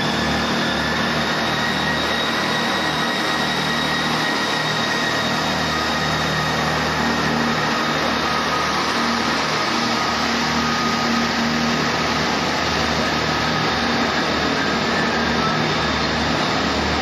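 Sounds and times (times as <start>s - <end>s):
train diesel engine drone: 0.0s - 17.0s
wheel and track noise: 0.0s - 17.0s.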